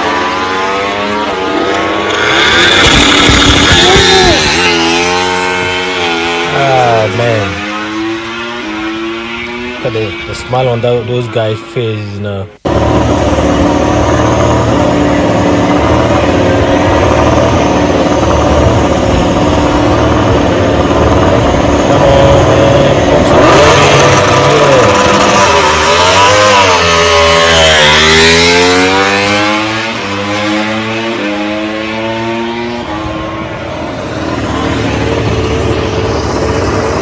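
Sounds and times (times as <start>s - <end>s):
racing motorcycle engine passing: 0.0s - 11.4s, 12.6s - 37.0s.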